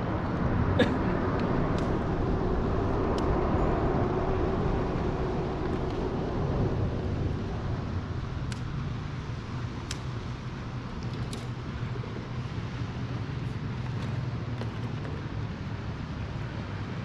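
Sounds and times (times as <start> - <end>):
road traffic rumble on bridge: 0.0 - 17.0.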